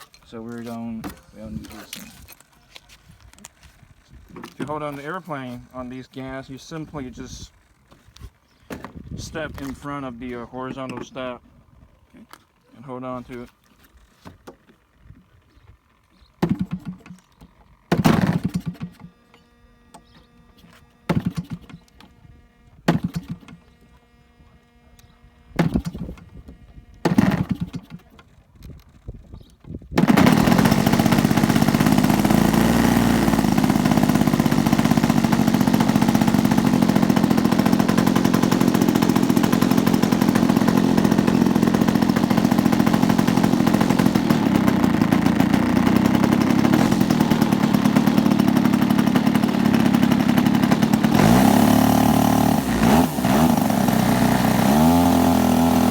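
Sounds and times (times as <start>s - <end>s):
two-stroke engine starting and running: 0.0s - 11.4s, 12.1s - 29.2s, 29.9s - 55.9s.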